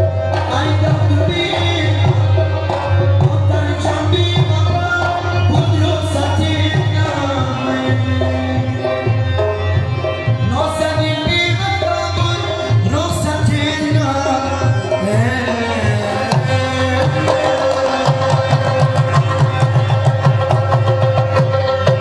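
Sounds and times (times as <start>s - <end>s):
tabla drumming: 0.0s - 22.0s.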